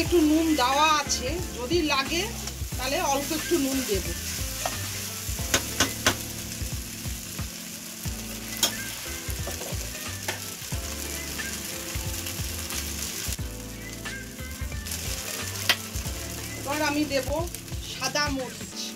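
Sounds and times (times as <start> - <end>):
rice sizzling in a pan: 0.0 - 18.9.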